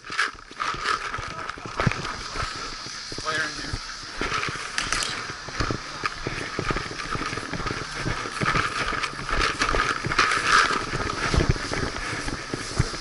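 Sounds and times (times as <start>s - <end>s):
paintball markers popping: 0.0s - 13.0s.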